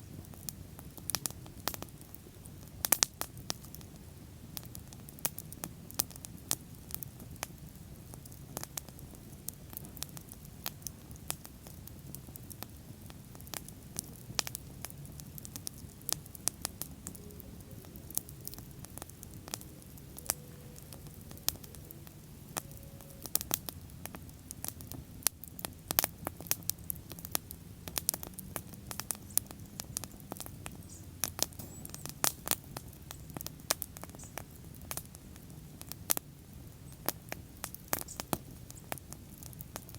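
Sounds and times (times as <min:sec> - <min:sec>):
bonfire popping and snapping: 0:00.0 - 0:39.9.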